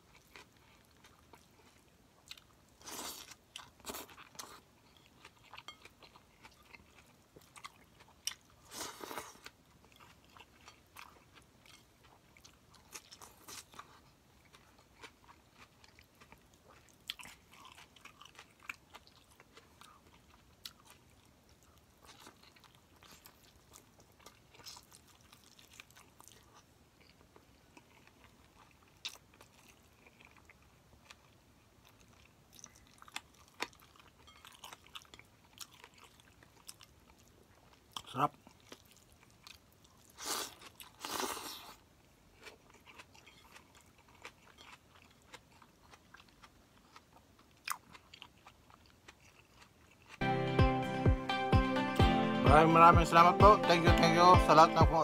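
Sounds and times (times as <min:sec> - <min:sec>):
person chewing food: 0:00.0 - 0:50.3.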